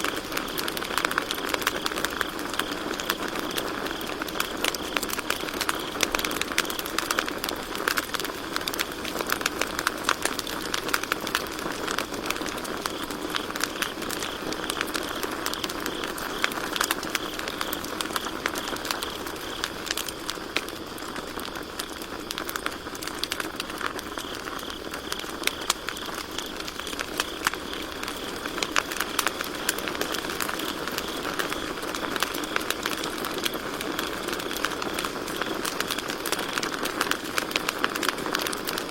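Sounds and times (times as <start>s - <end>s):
campfire crackling: 0.0s - 38.9s
crickets chirping: 0.0s - 38.9s.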